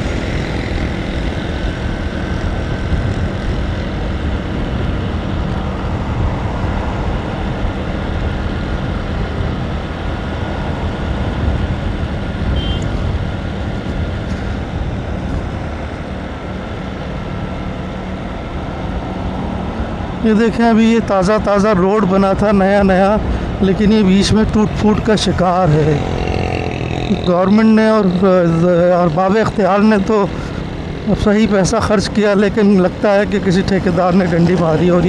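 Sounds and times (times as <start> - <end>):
motorcycle engine hum: 0.0 - 35.0
road and wind noise: 0.0 - 35.0.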